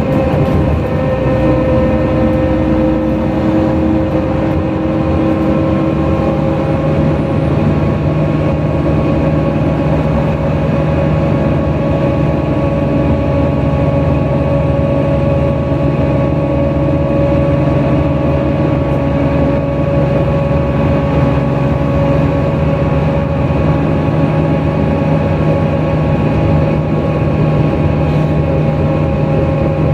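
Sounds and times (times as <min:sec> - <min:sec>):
bus engine drone: 0:00.0 - 0:29.9
steady whine: 0:00.0 - 0:29.9.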